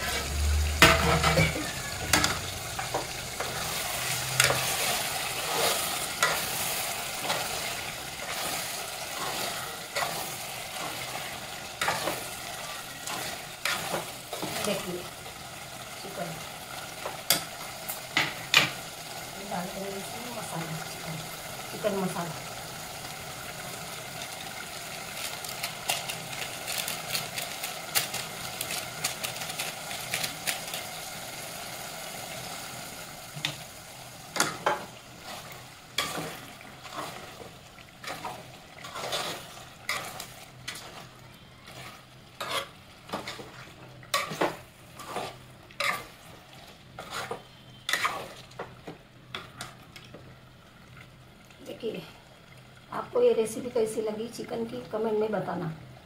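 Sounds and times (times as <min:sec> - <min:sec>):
curry sizzling: 0:00.0 - 0:56.0.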